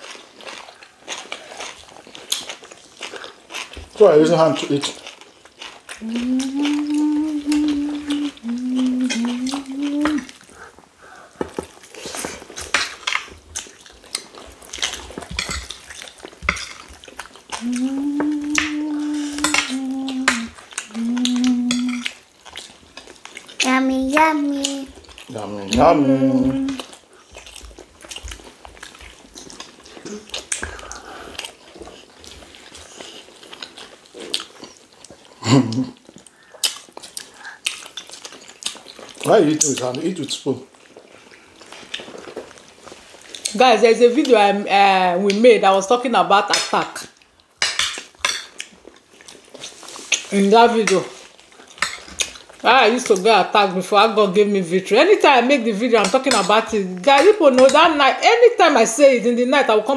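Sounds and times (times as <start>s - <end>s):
chewing: 0.0s - 45.8s, 46.5s - 58.0s.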